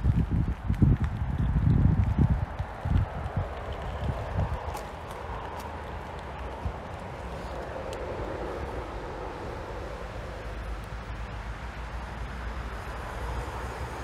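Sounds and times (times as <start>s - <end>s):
continuous low rumble: 0.0s - 14.0s.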